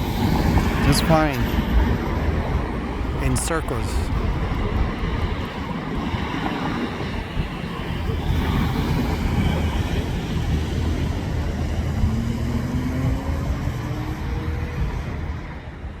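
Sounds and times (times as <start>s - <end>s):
helicopter flying overhead: 0.0s - 15.9s.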